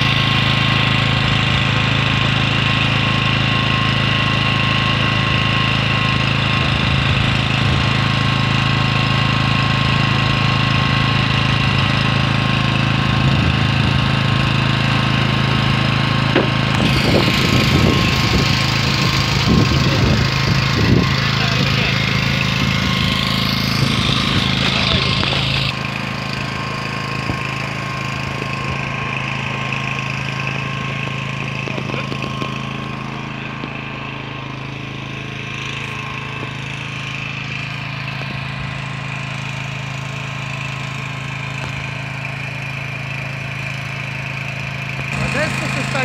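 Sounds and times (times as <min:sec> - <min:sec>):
engine humming steadily: 0:00.0 - 0:46.0.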